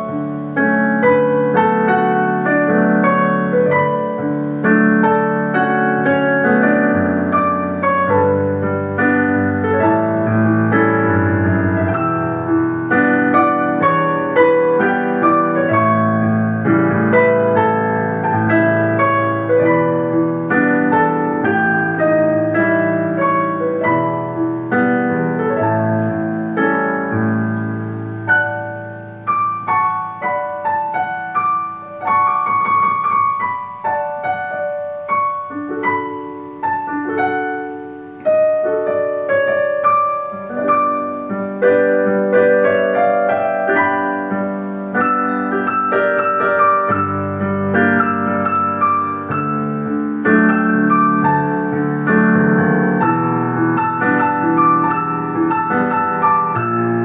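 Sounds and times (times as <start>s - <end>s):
piano piece: 0.0s - 57.0s.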